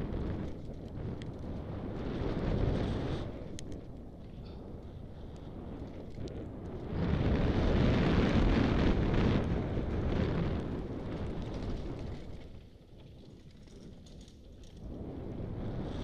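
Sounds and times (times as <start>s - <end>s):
tyres rumbling on dirt trail: 0.0s - 16.0s
wind rushing over microphone: 0.0s - 16.0s.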